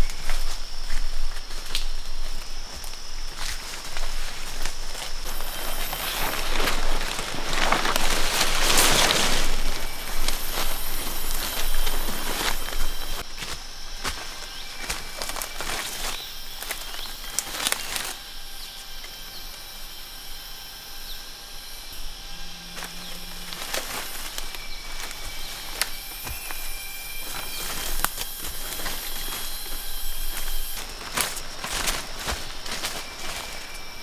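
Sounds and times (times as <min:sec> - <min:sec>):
dry leaves and twigs cracking: 0:00.0 - 0:19.3, 0:21.9 - 0:34.0
high insect hum: 0:00.0 - 0:34.0.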